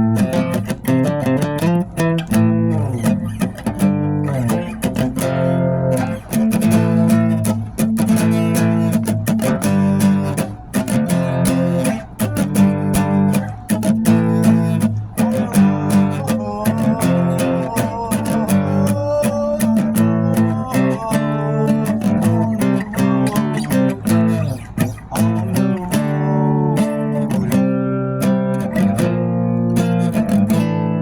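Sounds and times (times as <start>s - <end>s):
strummed acoustic guitar: 0.0s - 31.0s.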